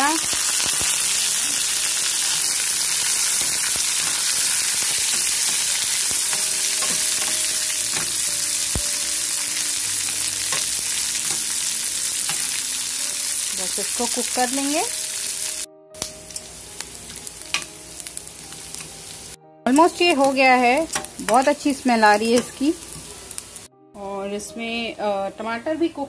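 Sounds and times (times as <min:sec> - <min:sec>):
food sizzling in hot oil: 0:00.0 - 0:23.7.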